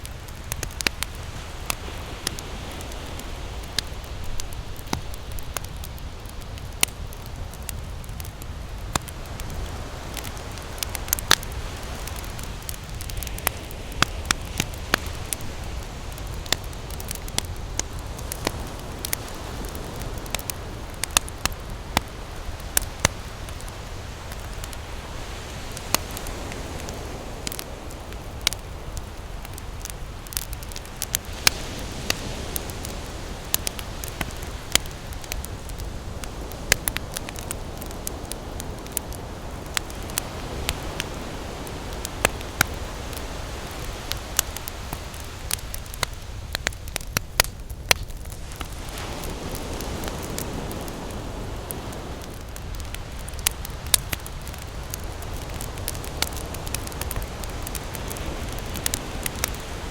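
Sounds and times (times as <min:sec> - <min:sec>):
ocean surf rumbling: 0:00.0 - 0:47.2, 0:48.2 - 0:59.9
campfire crackling and popping: 0:00.0 - 0:59.9.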